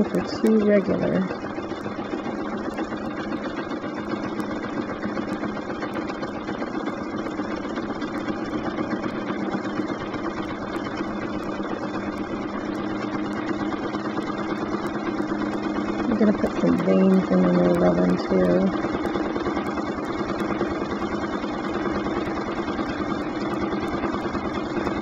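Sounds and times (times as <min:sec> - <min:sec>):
sewing machine running: 0:00.0 - 0:25.0.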